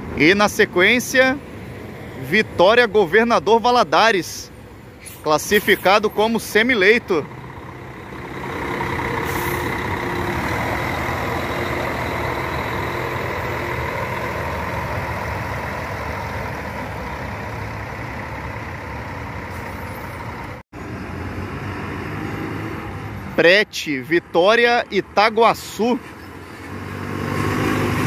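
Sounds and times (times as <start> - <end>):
faint bus engine: 0.0 - 28.0
bus diesel engine driving off: 3.8 - 23.5, 25.0 - 28.0.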